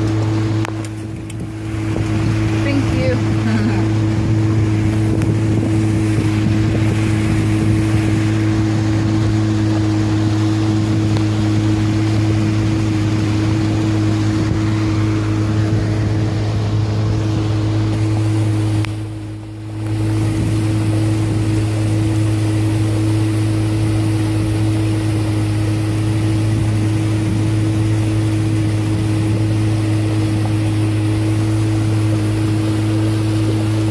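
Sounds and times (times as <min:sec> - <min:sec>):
boat motor humming: 0:00.0 - 0:33.9
water rushing: 0:00.0 - 0:33.9
wind: 0:00.0 - 0:33.9.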